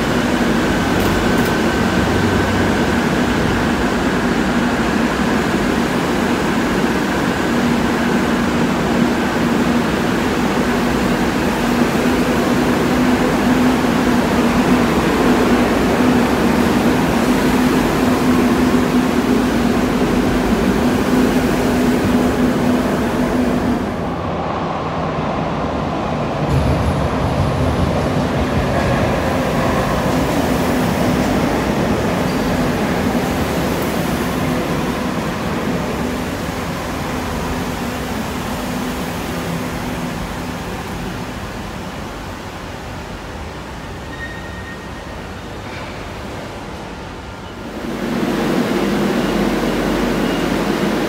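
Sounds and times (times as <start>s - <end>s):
metro train rumbling past: 0.0s - 51.0s
train arriving rumble: 0.0s - 51.0s.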